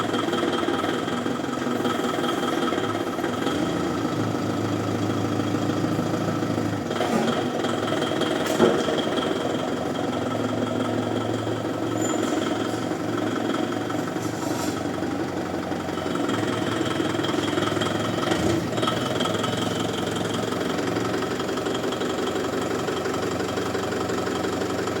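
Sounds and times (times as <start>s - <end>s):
forklift engine running: 0.0s - 25.0s.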